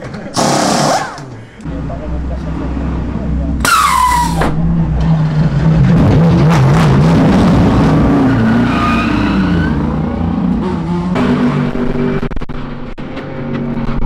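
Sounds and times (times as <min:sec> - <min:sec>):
race car engine accelerating: 0:00.4 - 0:14.0.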